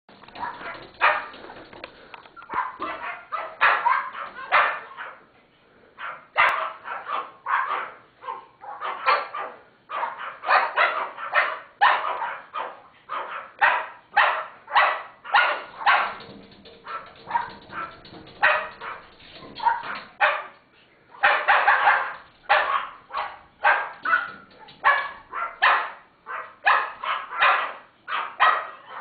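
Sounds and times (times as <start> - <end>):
small dogs barking: 0.1 - 5.3, 6.0 - 29.0.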